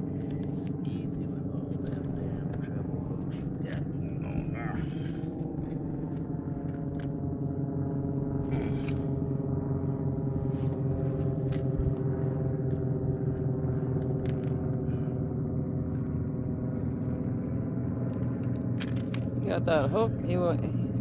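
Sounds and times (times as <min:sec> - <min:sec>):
boat motor running: 0:00.0 - 0:21.0.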